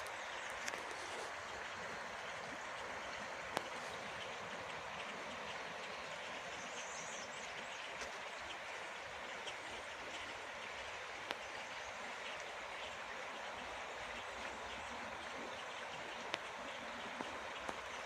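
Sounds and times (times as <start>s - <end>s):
flowing river water: 0.0s - 18.0s.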